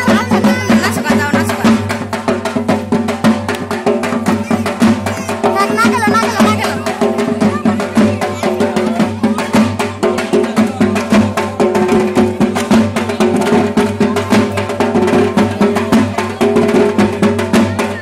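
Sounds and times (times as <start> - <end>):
clacking percussion: 0.0 - 18.0
fast festival drumming: 0.0 - 18.0.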